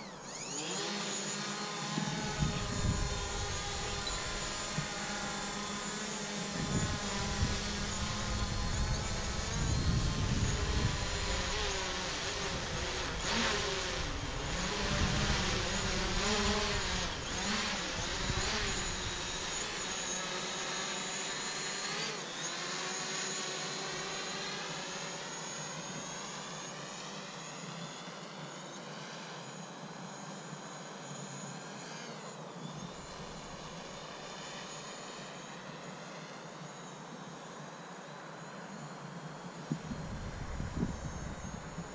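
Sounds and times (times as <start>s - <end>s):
drone propellers whining: 0.0s - 41.9s.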